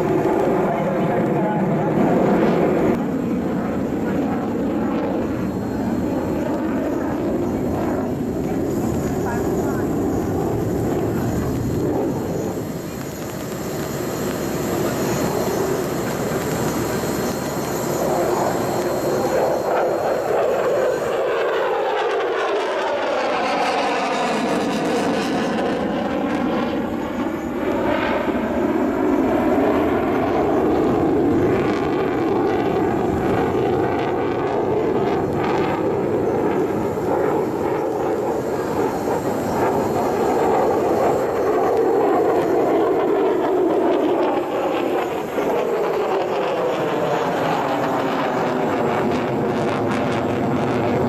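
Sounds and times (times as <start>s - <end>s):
fighter jet engine roar: 0.0s - 51.0s.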